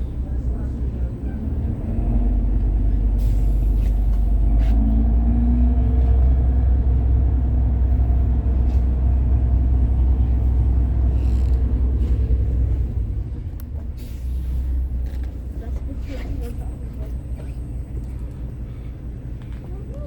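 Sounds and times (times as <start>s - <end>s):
boat engines rumbling: 0.0s - 20.0s.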